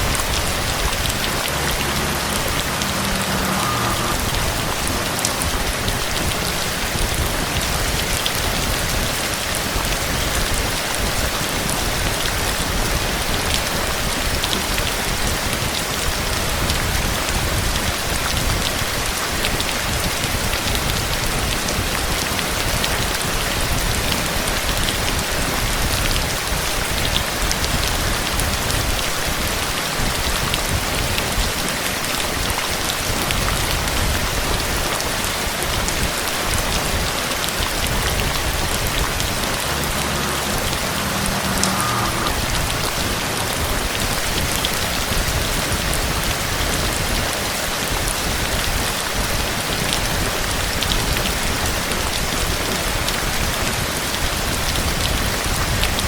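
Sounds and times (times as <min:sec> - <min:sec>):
heavy rain falling: 0:00.0 - 0:56.0
raindrops ticking: 0:00.0 - 0:56.0.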